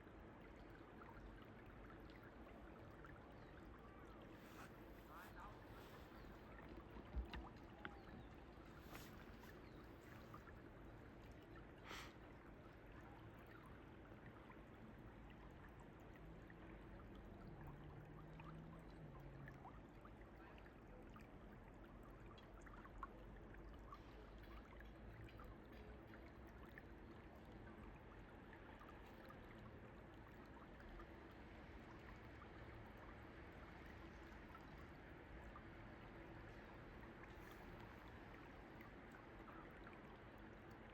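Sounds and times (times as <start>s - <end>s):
faint flowing stream: 0.0s - 40.9s.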